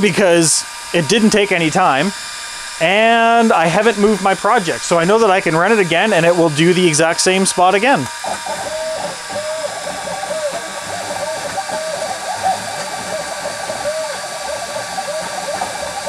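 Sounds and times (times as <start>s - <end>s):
steady machine hum: 0.0s - 16.0s
stepper motors whining: 0.0s - 16.0s.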